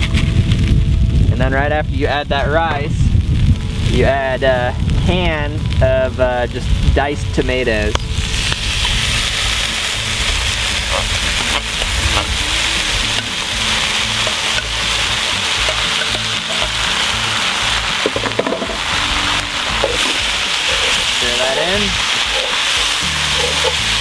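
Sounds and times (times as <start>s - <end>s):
tomatoes sizzling in hot pot: 2.4s - 24.0s.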